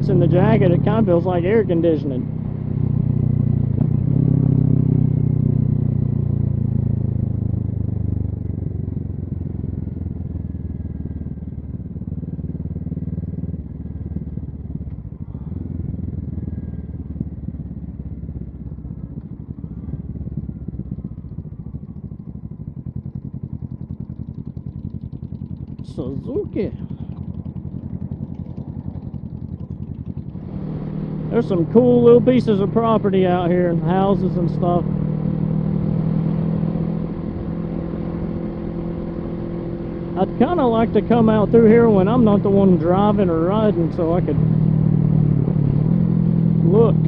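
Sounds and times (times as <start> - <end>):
motorcycle engine riding: 0.0 - 47.0.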